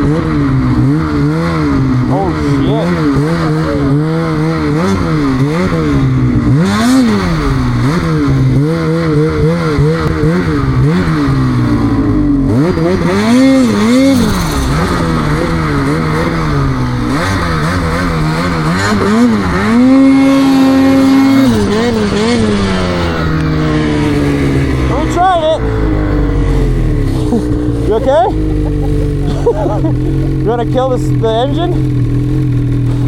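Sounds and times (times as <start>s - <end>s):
snowmobile engine revving: 0.0s - 33.0s.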